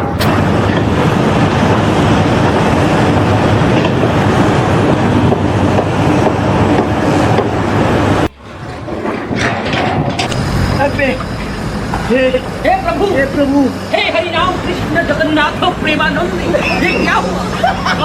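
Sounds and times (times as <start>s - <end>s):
mechanical rumble and rattle: 0.0s - 18.0s.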